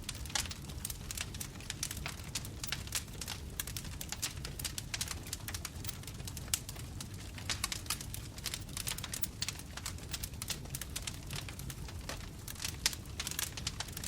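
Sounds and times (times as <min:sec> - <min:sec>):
bonfire crackling and popping: 0:00.0 - 0:14.0
low rumble of flames: 0:00.0 - 0:14.0.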